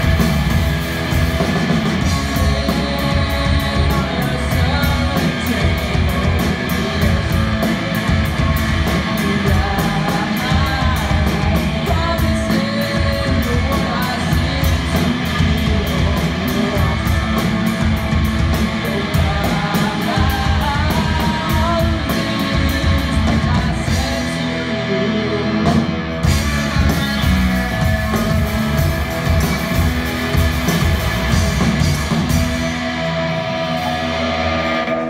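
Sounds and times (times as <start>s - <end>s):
drum kit beat: 0.0s - 35.0s
electric guitar: 0.0s - 35.0s
lead singer: 0.0s - 35.0s.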